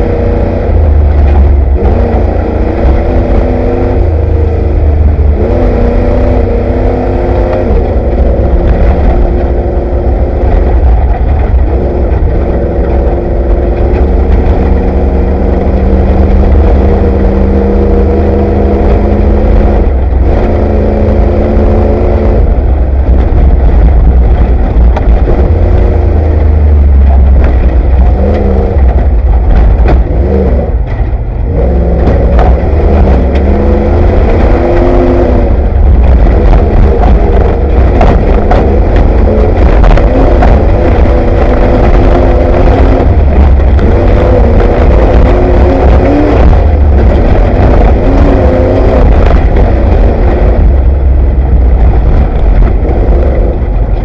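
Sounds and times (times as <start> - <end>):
knocks and clatter over rough ground: 0.0 - 54.0
truck engine revving: 0.0 - 54.0.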